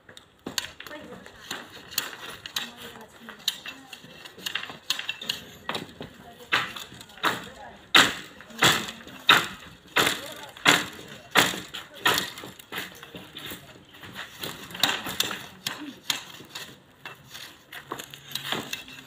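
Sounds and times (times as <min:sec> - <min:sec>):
knife scraping bamboo: 0:00.6 - 0:19.0.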